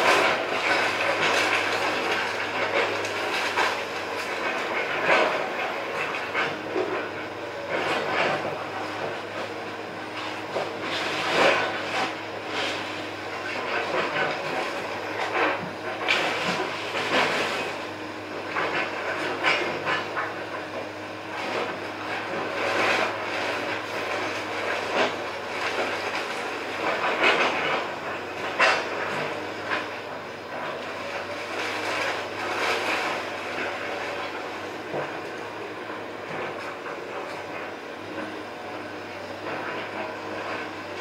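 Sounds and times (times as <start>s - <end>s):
excavator running: 0.0s - 41.0s.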